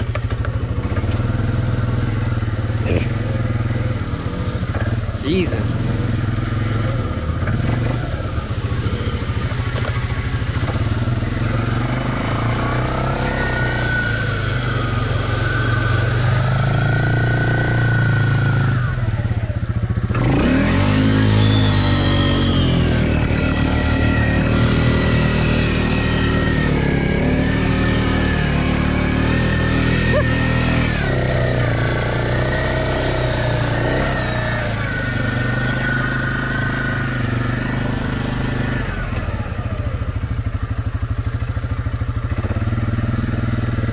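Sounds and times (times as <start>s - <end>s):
off-road vehicle engine revving: 0.0s - 43.9s.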